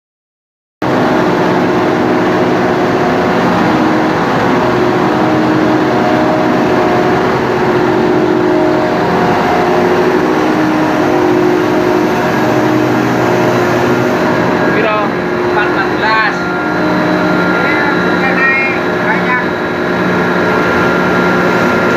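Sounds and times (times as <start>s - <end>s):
machine engine droning steadily: 0.8s - 21.9s.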